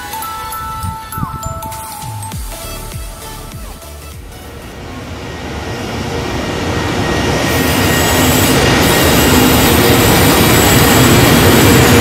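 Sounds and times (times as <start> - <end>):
freight train approaching: 0.0 - 12.0.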